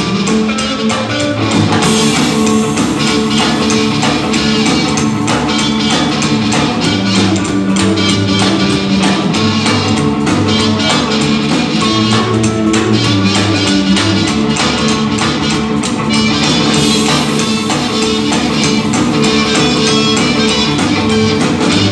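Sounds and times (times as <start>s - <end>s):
amplified harmonica: 0.0s - 21.9s
blues band playing: 0.0s - 21.9s.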